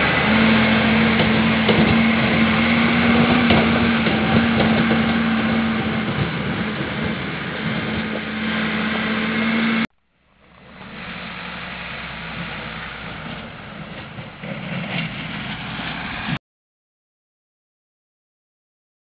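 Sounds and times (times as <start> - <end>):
wheel loader diesel engine running: 0.0 - 16.4.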